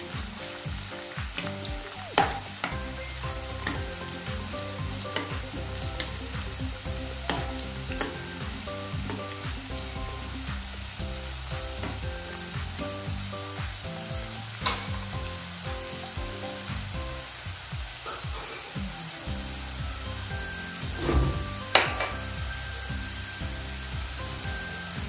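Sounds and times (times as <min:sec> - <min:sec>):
fries sizzling in hot oil: 0:00.0 - 0:25.0
soft background music: 0:00.0 - 0:25.0.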